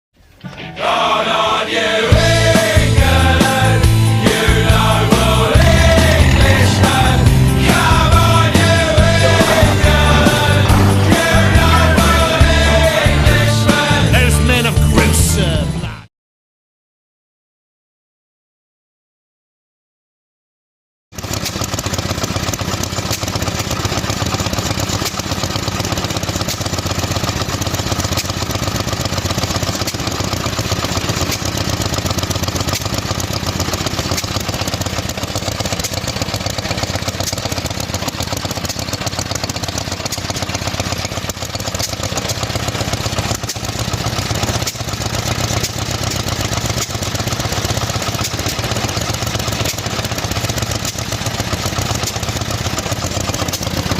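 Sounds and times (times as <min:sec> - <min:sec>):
stationary engine knocking: 0:02.1 - 0:14.3, 0:21.1 - 0:53.9.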